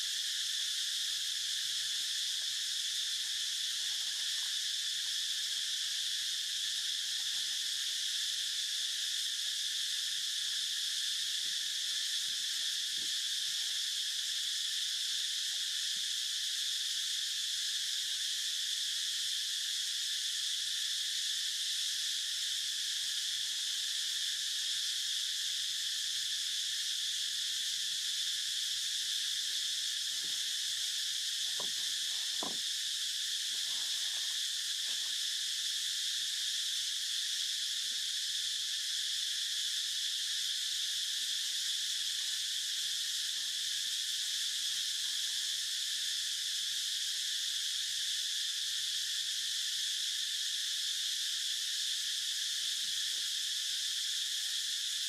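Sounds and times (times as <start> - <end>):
insects chirping chorus: 0.0 - 55.0.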